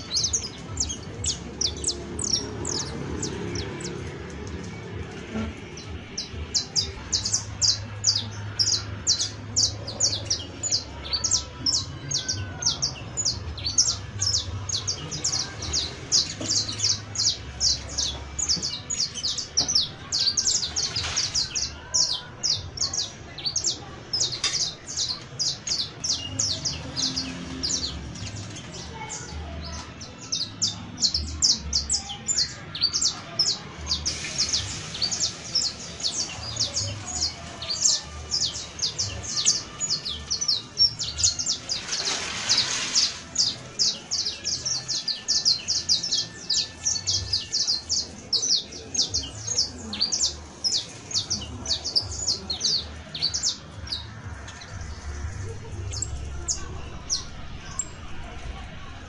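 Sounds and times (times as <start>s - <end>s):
finch singing: 0.0s - 58.6s.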